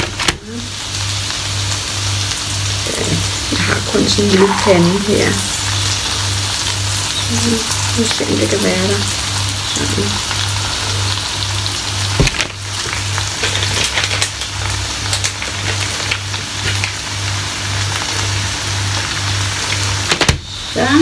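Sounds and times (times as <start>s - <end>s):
bacon sizzling in a frying pan: 0.0s - 21.0s.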